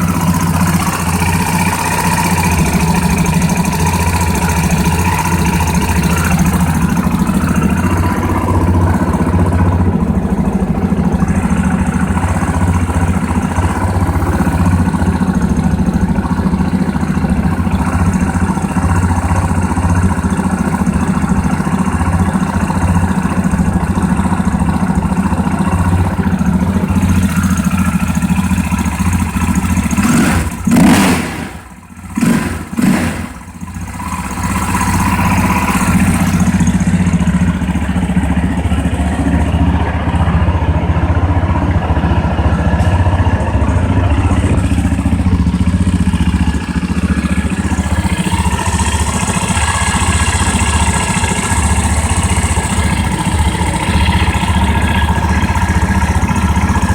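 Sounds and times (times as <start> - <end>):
engine revving: 0.0 - 56.9
motorcycle engine idling: 0.0 - 56.9.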